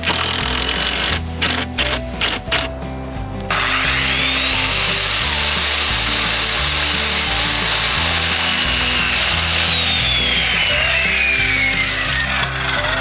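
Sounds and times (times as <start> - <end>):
power tool motor whine: 0.0 - 2.8, 3.5 - 13.0
background music: 0.0 - 13.0.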